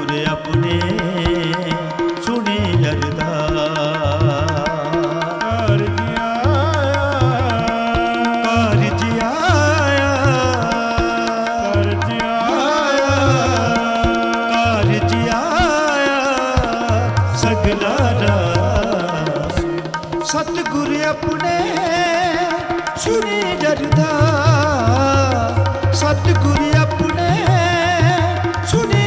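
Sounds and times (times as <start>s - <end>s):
tabla rhythm: 0.0s - 29.0s.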